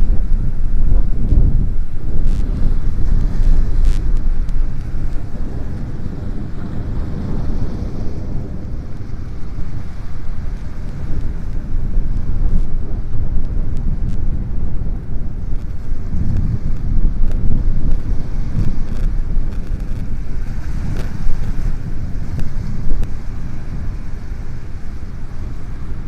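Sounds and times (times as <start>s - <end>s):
surf breaking on boulders: 0.0s - 26.0s
wind buffeting microphone: 0.0s - 26.0s.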